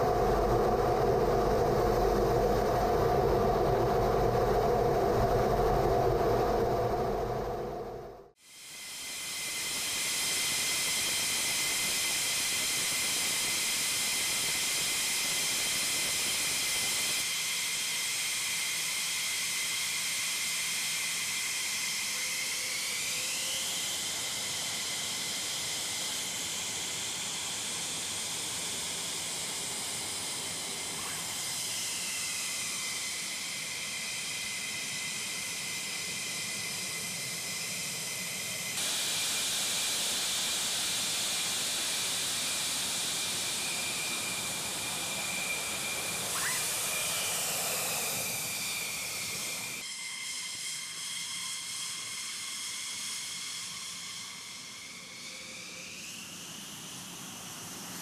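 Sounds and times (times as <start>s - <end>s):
jet engines idling with turbine whine: 0.0s - 58.0s.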